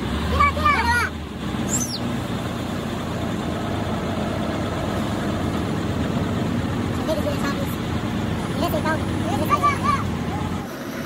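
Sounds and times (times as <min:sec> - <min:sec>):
large engine idling: 0:00.0 - 0:11.0.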